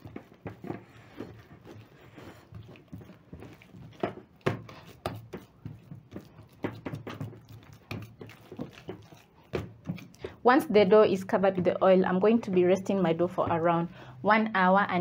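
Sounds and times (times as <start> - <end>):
hands patting wet dough: 0.0 - 13.9.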